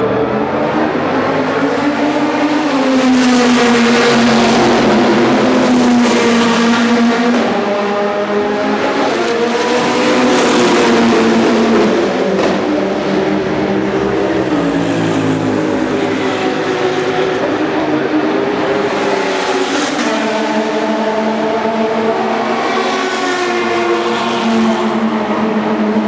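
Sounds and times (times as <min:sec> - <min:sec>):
race car engines passing: 0:00.0 - 0:26.0.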